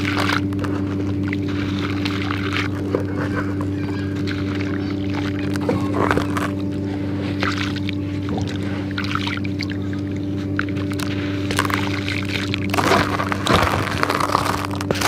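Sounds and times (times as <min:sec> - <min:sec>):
gritty crackles: 0:00.0 - 0:15.0
low mechanical hum: 0:00.0 - 0:15.0.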